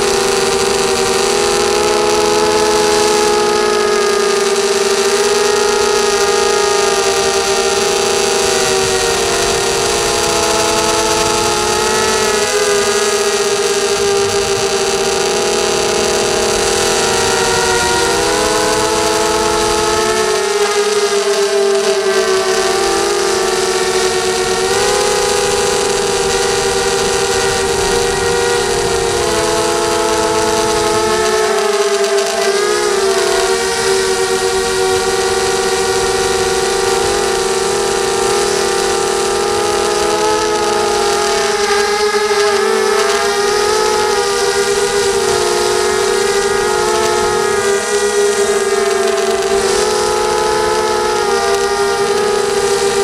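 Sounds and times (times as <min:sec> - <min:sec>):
drone motors whining: 0:00.0 - 0:53.0
hiss of wind and prop wash: 0:00.0 - 0:53.0.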